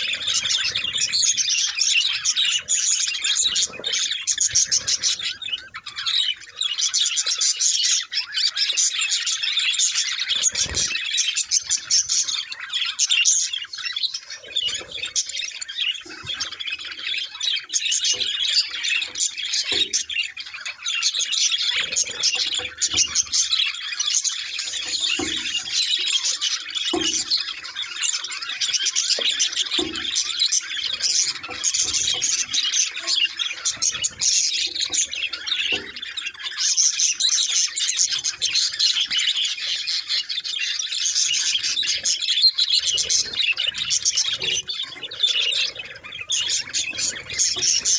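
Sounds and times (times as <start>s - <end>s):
budgerigars chattering and chirping: 0.0s - 47.9s.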